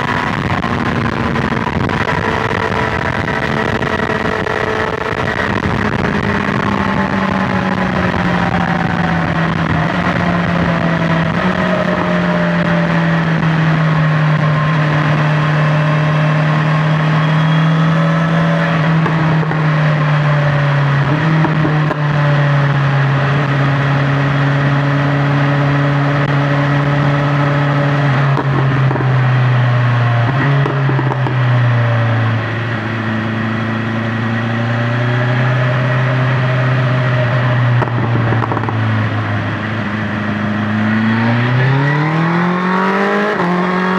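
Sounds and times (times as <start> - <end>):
motorcycle engine cruising: 0.0 - 43.9
road and wind noise: 0.0 - 43.9.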